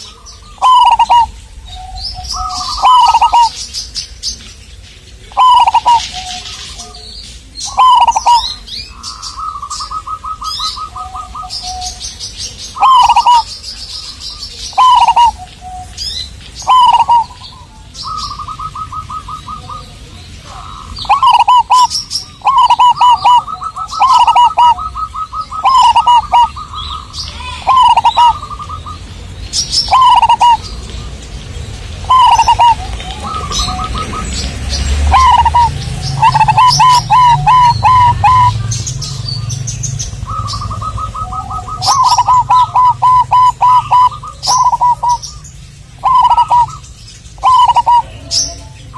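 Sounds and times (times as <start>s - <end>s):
dove cooing: 0.0s - 3.7s, 5.2s - 29.1s, 29.7s - 30.9s, 32.0s - 48.8s.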